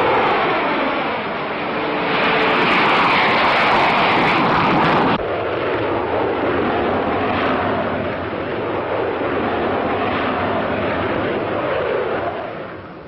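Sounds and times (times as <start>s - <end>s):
jet engine rushing: 0.0s - 13.0s.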